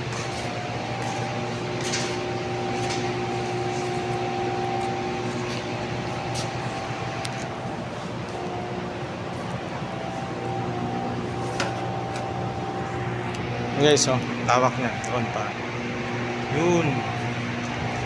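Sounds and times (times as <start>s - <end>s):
motor hum: 0.0s - 18.0s.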